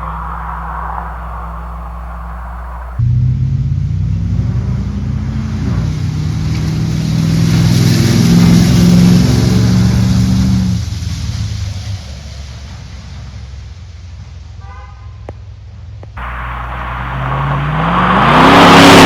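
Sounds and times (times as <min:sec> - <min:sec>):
car exhaust revving: 0:00.0 - 0:19.0.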